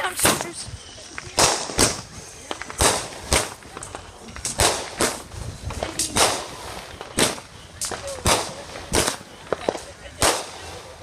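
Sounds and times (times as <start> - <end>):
fireworks bangs: 0.0 - 11.0
small fireworks pops: 0.0 - 11.0.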